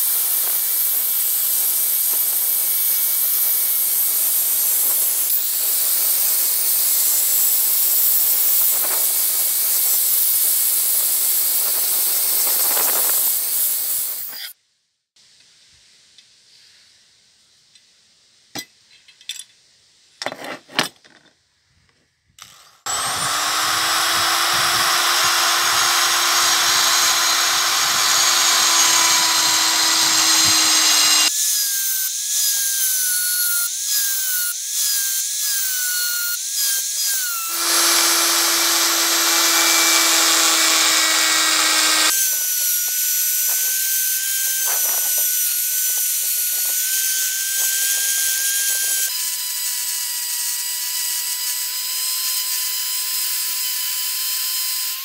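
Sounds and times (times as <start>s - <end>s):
rotary tool grinding metal: 0.0s - 14.6s, 22.4s - 55.0s.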